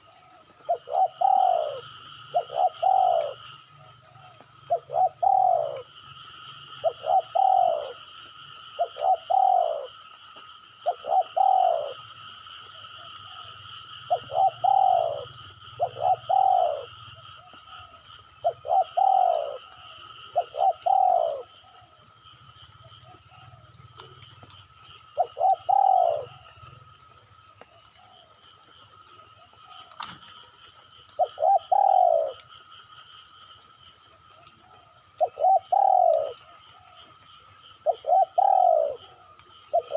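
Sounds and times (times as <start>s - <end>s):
dove cooing: 0.0s - 32.7s, 33.8s - 39.9s.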